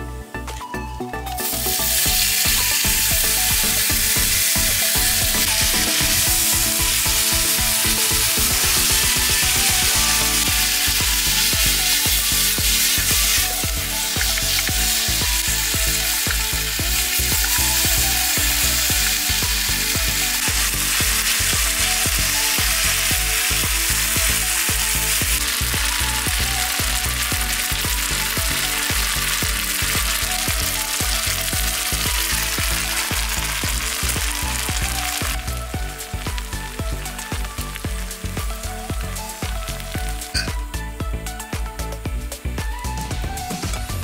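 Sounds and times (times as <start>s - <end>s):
music with a steady beat: 0.0s - 44.0s
food sizzling in a frying pan: 1.4s - 44.0s.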